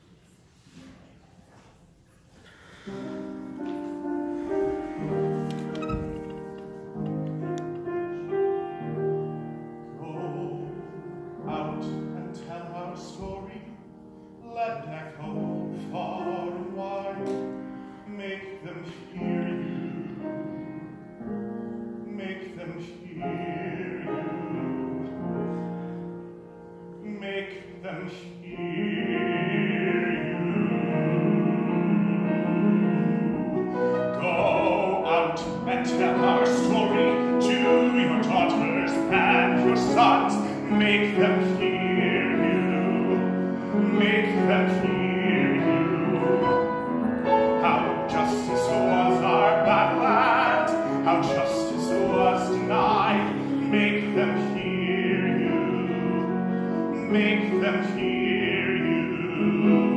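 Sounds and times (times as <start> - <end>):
piano chords: 2.6 - 59.9.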